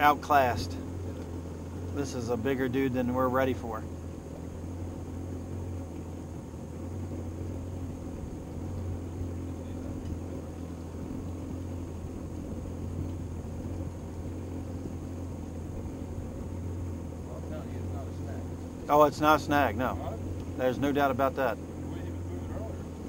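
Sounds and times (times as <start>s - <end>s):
outboard motor idling: 0.0s - 23.0s.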